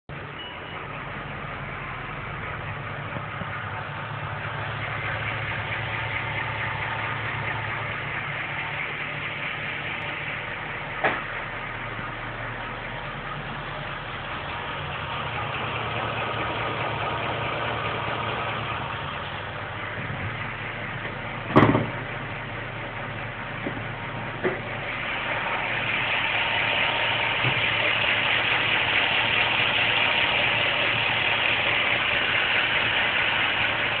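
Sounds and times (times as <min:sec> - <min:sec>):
car engine idling: 0:00.0 - 0:34.0
engine ticking and knocking: 0:00.0 - 0:34.0.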